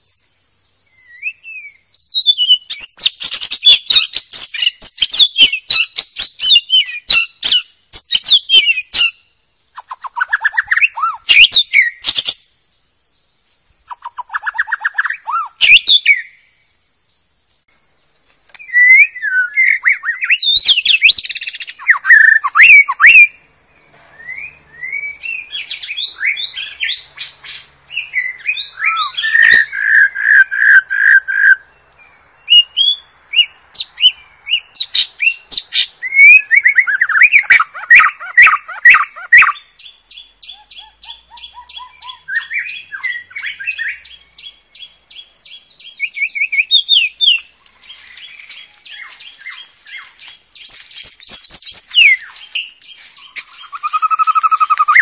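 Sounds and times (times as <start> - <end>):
bird singing whistles and trills: 0.0 - 17.2, 18.5 - 55.0.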